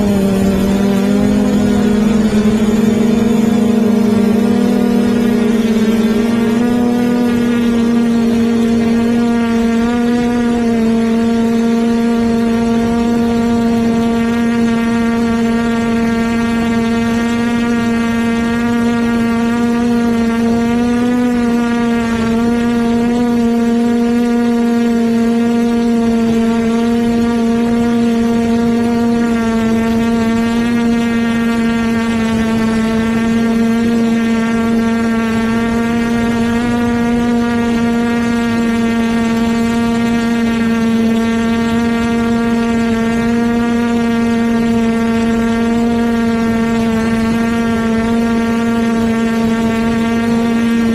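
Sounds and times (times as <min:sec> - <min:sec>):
quadcopter motors humming: 0:00.0 - 0:50.9.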